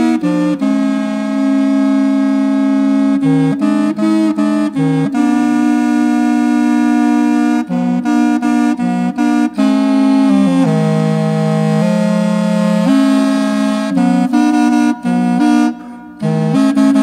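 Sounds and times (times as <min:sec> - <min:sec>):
double reed pipes playing: 0:00.0 - 0:17.0.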